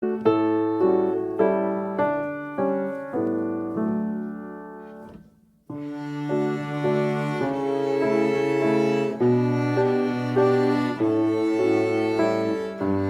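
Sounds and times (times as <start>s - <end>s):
piano notes: 0.0s - 13.0s.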